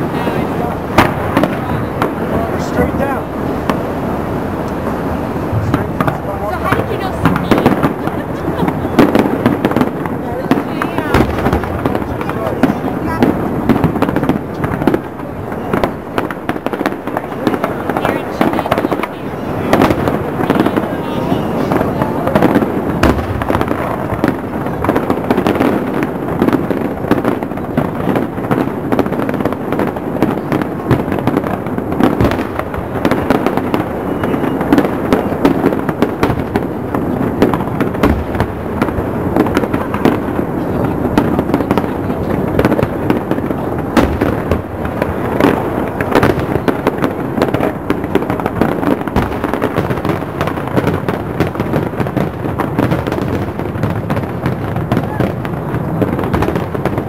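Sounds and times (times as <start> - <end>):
fireworks bursting with bangs and crackles: 0.0 - 57.0.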